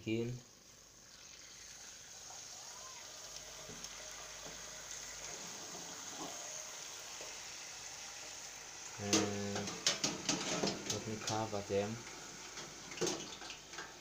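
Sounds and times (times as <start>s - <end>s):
chips sizzling in deep fryer: 0.0s - 14.0s.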